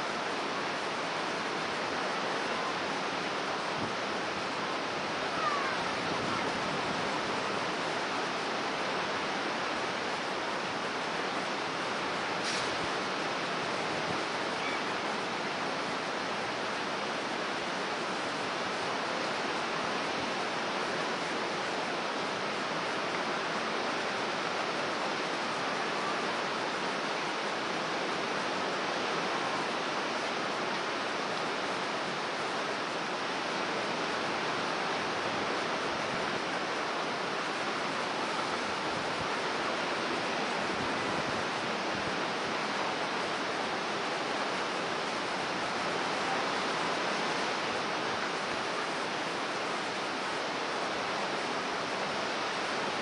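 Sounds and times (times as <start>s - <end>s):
storm surf breaking: 0.0s - 53.0s.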